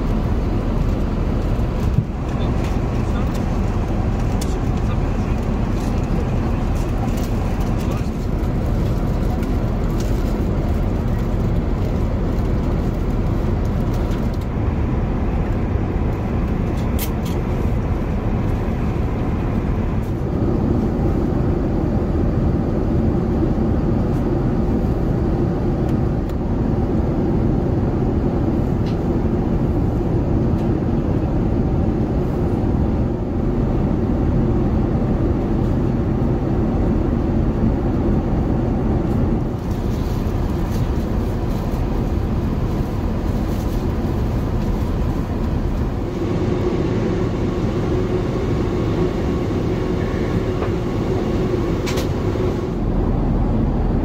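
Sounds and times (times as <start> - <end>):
airliner cabin roar: 0.0 - 54.0.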